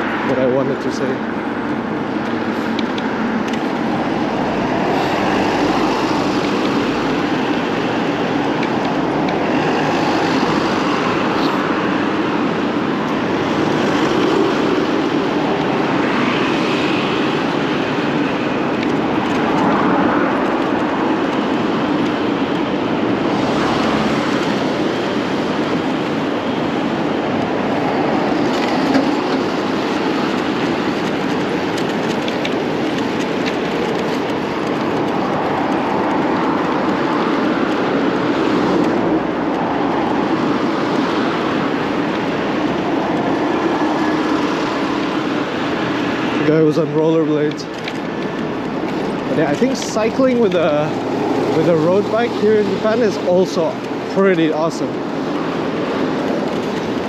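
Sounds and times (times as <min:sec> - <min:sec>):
wind rushing: 0:00.0 - 0:46.5
faint traffic: 0:00.0 - 0:57.0
road noise: 0:00.0 - 0:57.0.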